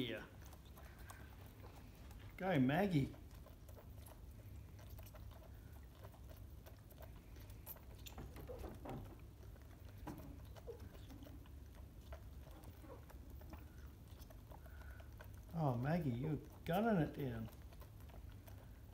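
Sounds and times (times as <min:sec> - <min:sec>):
koalas suckling from bottles: 0:00.0 - 0:18.9
low steady hum: 0:00.0 - 0:18.9.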